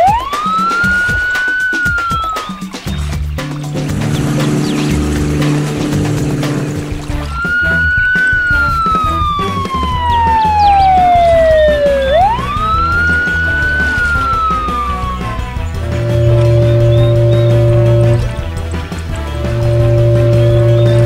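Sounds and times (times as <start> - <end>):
police siren wailing: 0.0 - 2.6, 3.8 - 18.4, 19.4 - 21.0
background music: 0.0 - 21.0.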